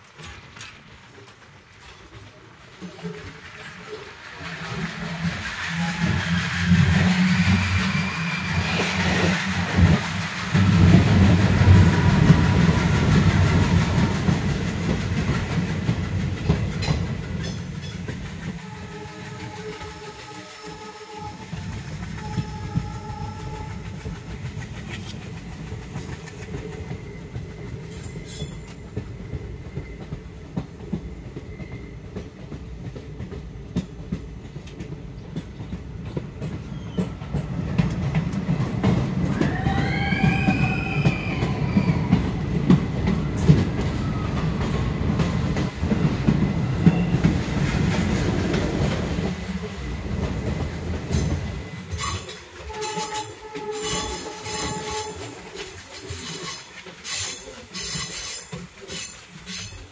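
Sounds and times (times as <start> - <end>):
wheels clicking over rail joints: 0.0 - 8.0, 8.6 - 59.9
train rumble: 0.0 - 59.9
train wheels squealing: 2.8 - 14.5, 16.5 - 33.4, 35.1 - 48.2, 48.8 - 59.9.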